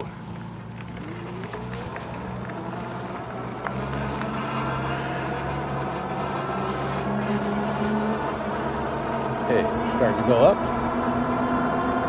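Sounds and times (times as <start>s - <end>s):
road and wind rumble: 0.0s - 12.0s.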